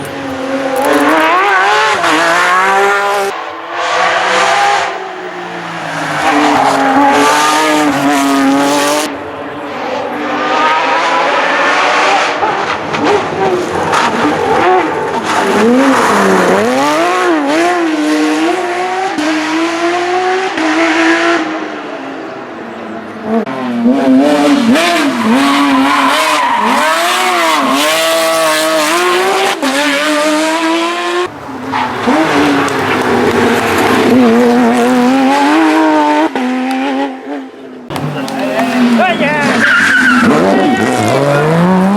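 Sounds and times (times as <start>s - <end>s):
car engine revving hard: 0.0s - 21.6s, 23.2s - 31.3s, 32.0s - 41.9s.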